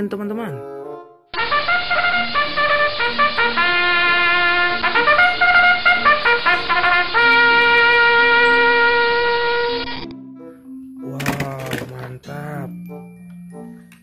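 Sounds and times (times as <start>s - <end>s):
background music melody: 0.0s - 14.0s.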